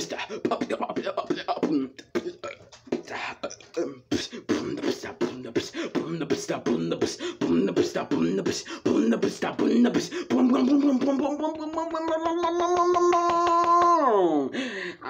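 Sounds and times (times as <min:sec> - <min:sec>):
beatboxing: 0:00.0 - 0:14.1.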